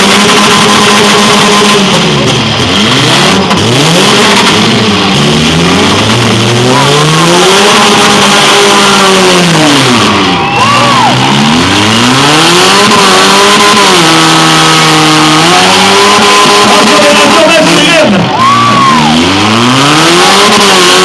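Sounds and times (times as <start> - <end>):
car engines revving: 0.0 - 21.0
steady noisy din: 0.0 - 21.0.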